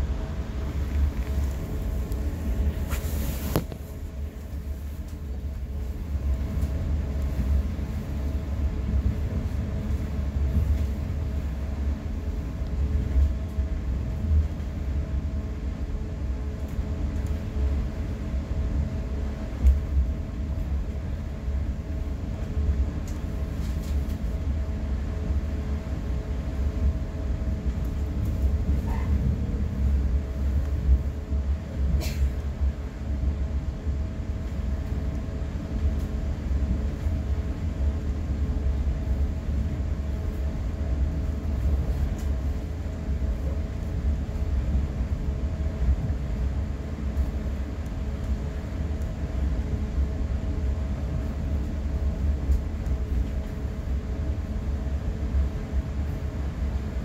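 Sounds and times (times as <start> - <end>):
faint steady hum: 0.0 - 57.0
train coach rumbling on track: 0.0 - 57.0.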